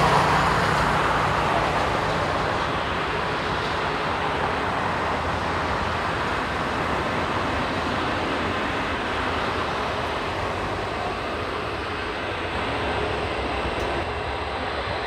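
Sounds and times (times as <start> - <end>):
jet engines rumbling and hissing: 0.0 - 15.0.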